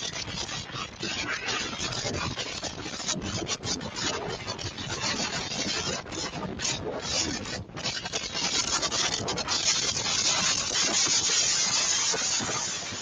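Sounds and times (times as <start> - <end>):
storm wind blasting microphone: 0.0 - 13.0.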